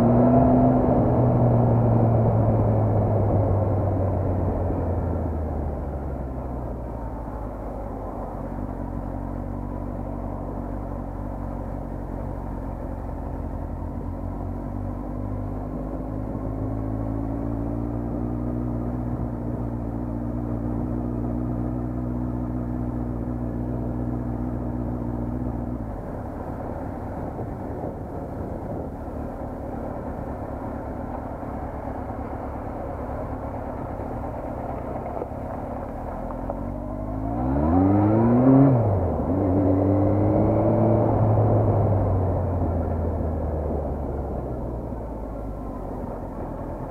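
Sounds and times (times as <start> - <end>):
road and wind noise: 0.0 - 46.9
vehicle engine running: 0.0 - 46.9.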